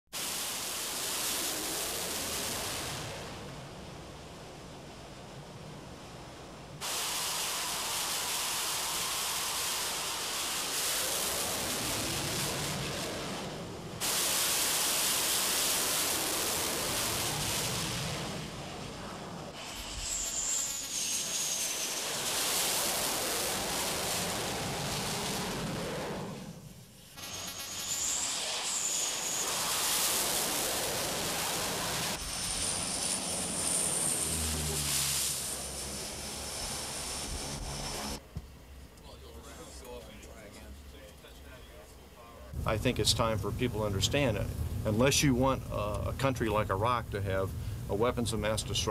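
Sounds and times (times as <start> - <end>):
turbine whine: 0.1 - 48.9
jet engines roaring: 0.2 - 48.9
quiet rushing noise: 0.2 - 48.9.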